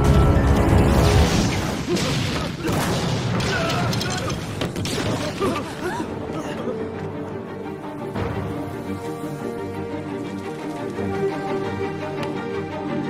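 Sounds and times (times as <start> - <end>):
crackling debris: 0.0 - 6.4, 8.1 - 12.6
dramatic background music: 0.0 - 13.0.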